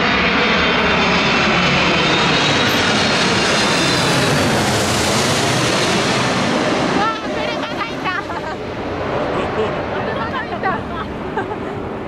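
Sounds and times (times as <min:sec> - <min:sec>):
jet engines rushing overhead: 0:00.0 - 0:12.0.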